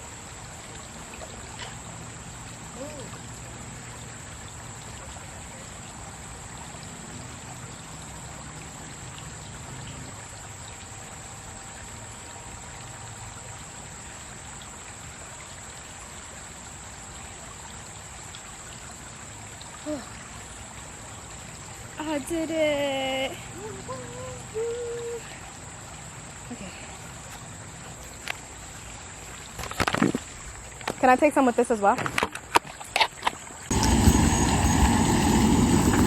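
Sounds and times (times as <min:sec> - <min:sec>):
stream water trickling: 0:00.0 - 0:36.0.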